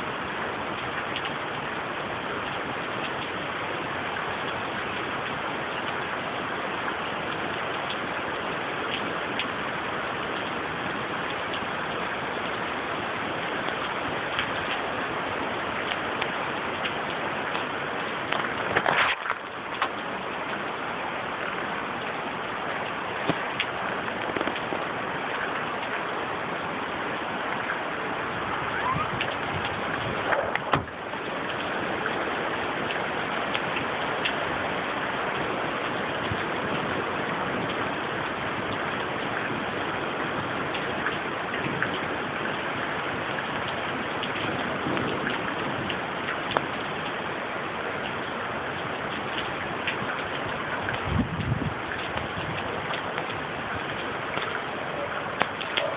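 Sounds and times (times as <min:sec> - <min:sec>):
rain and wind hissing: 0:00.0 - 0:55.9.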